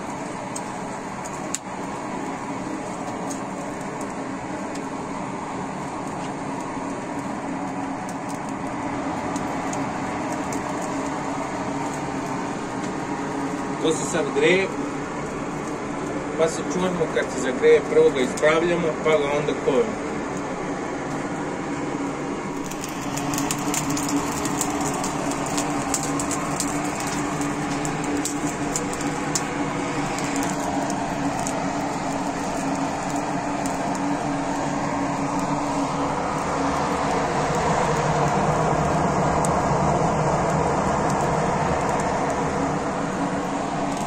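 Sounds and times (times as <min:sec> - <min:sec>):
forge air blower rushing: 0:00.0 - 0:44.0
sparks crackling and popping: 0:00.0 - 0:44.0.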